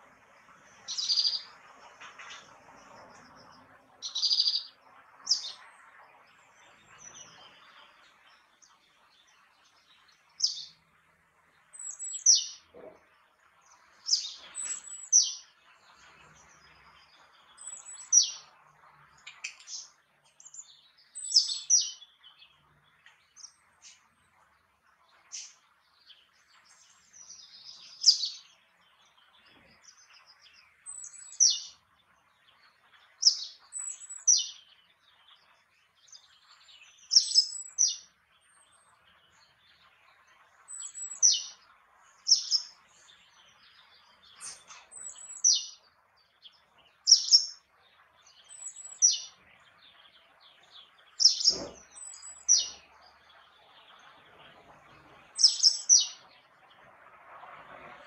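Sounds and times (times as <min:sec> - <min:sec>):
faint background hiss: 0:00.0 - 0:58.0.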